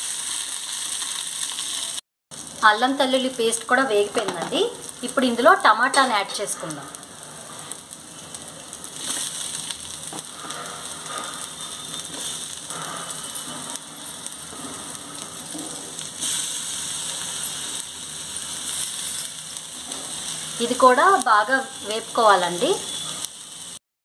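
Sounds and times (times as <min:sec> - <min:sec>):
vegetables sizzling in hot oil: 0:00.0 - 0:23.8.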